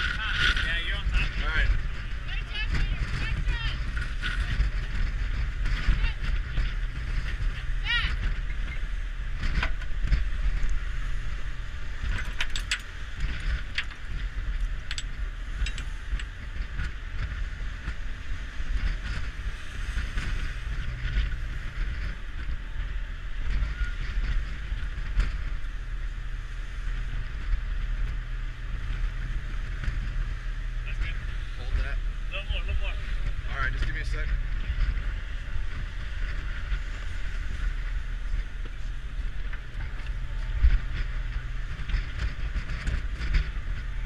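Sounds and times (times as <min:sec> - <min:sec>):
ship rumbling at sea: 0:00.0 - 0:44.0
wind buffeting microphone: 0:00.0 - 0:44.0.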